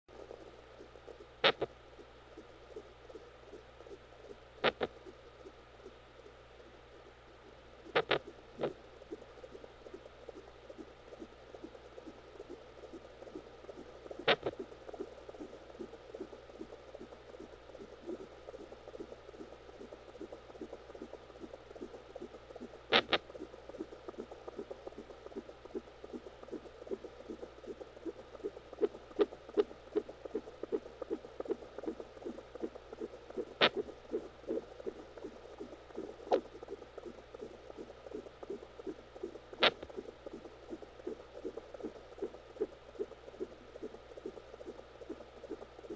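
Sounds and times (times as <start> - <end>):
fetal heartbeat pulsing whoosh: 7.9 - 45.9.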